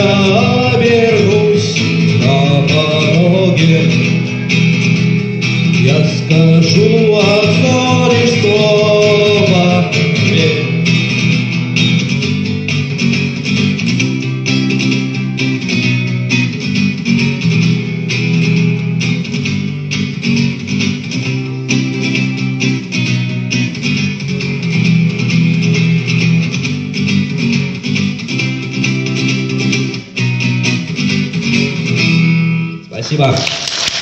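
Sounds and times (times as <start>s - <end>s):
bass line: 0.0s - 33.4s
strummed guitar chords: 0.0s - 33.4s.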